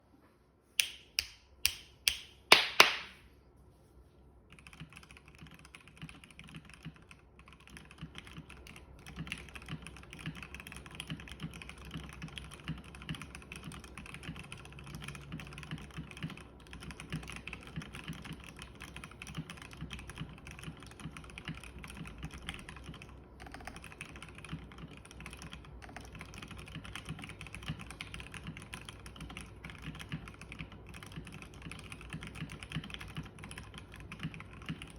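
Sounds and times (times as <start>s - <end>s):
mechanical keyboard typing: 4.5s - 34.9s.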